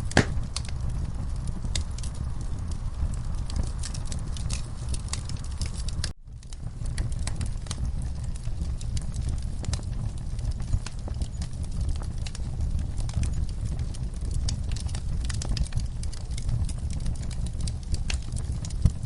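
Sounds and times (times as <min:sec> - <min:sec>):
log fire crackling and popping: 0:00.0 - 0:19.0
low fire rumble: 0:00.0 - 0:19.0.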